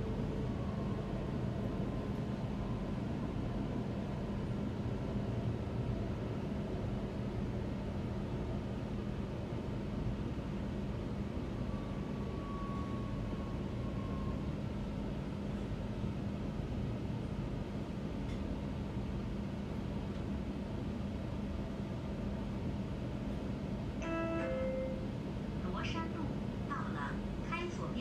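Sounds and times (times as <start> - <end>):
train running noise with hum: 0.0 - 28.0.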